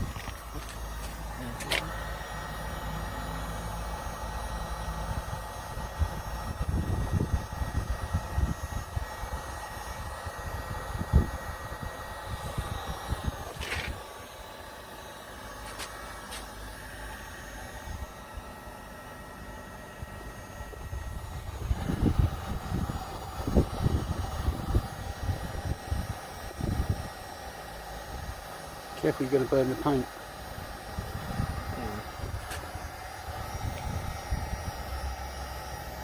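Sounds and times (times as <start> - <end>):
heat gun fan whine: 0.0 - 36.0.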